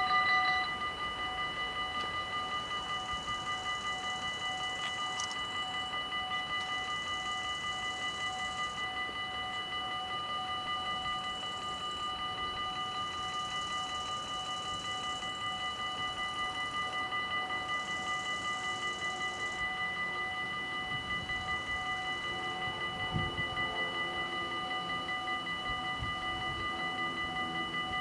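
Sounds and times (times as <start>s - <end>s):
level crossing bells ringing: 0.0s - 28.0s.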